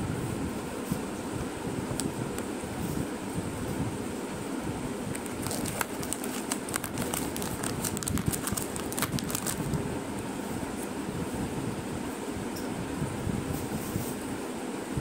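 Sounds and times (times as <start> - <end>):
steady whirring fan noise: 0.0 - 15.0.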